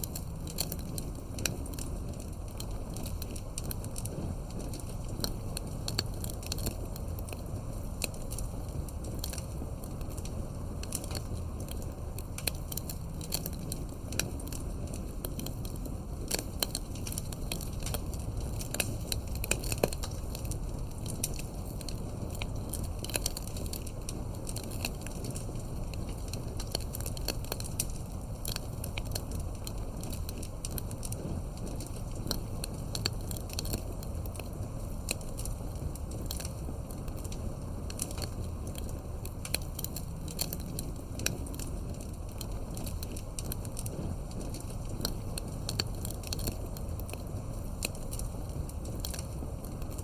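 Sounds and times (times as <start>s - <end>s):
flames rumbling: 0.0s - 50.0s
wood popping and snapping: 0.0s - 50.0s.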